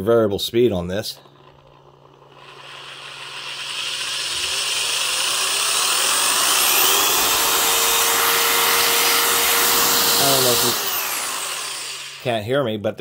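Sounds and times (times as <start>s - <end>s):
electric drill motor whine: 1.2s - 12.4s.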